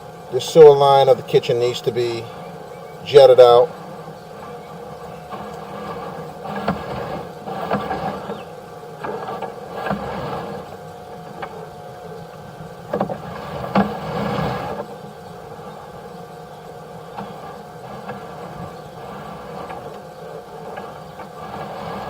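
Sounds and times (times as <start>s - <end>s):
mechanical hum: 0.0s - 22.0s
short scraping bursts: 0.4s - 11.8s, 12.8s - 14.9s, 17.1s - 22.0s.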